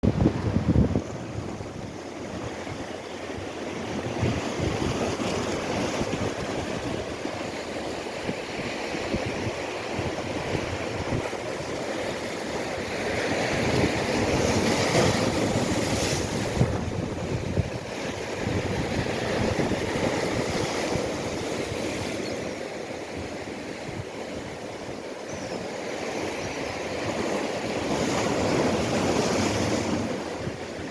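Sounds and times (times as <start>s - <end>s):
wind buffeting microphone: 0.0s - 25.6s
waves washing in: 0.0s - 30.9s.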